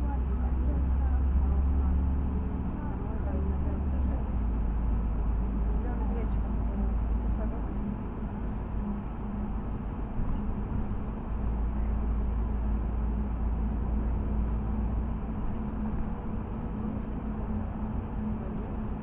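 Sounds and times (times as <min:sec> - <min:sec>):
bus engine and road rumble: 0:00.0 - 0:19.0
constant hum: 0:00.0 - 0:19.0.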